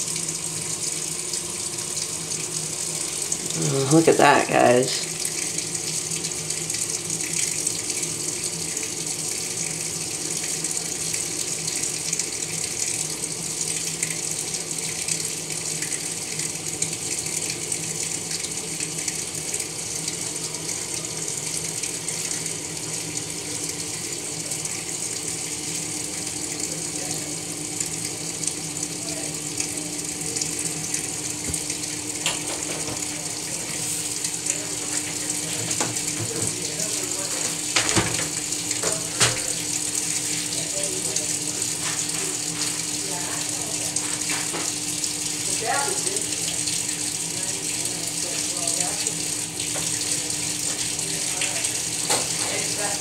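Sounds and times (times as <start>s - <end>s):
water rushing into washer tub: 0.0s - 53.0s.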